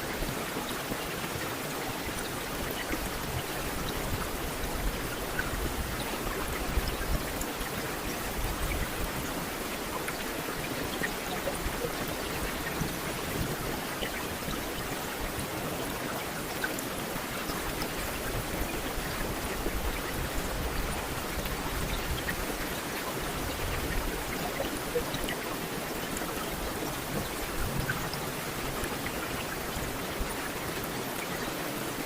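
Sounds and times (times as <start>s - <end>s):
steady rain hiss: 0.0s - 32.0s.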